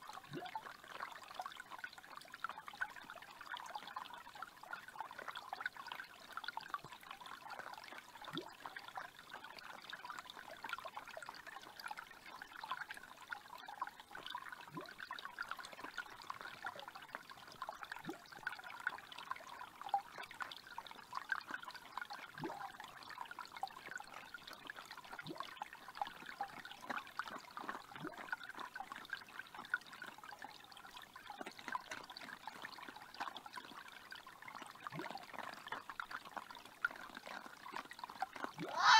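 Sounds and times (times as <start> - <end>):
creek trickling over stones: 0.0 - 38.9.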